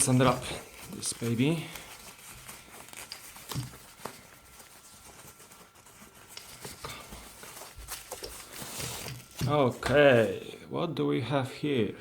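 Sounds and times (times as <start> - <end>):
packaging rustling: 0.0 - 10.4.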